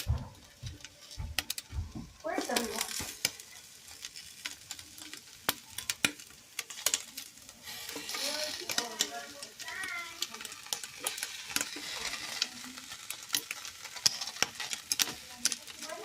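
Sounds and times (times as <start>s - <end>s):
bacon sizzling in a pan: 0.0s - 16.0s.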